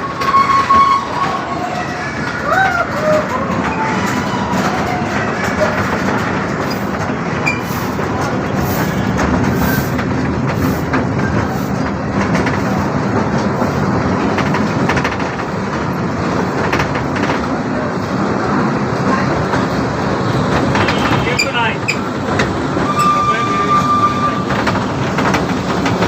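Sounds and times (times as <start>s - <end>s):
ride train wheels on rails: 0.0s - 26.0s.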